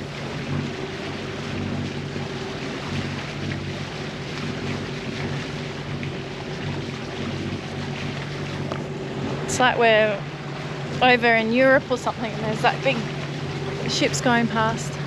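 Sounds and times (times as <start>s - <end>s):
boat motors humming: 0.0s - 15.0s
water noise: 0.0s - 15.0s.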